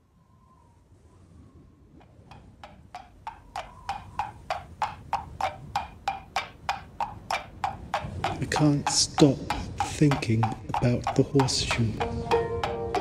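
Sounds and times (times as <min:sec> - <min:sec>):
hollow wood block knocks: 0:02.0 - 0:13.0.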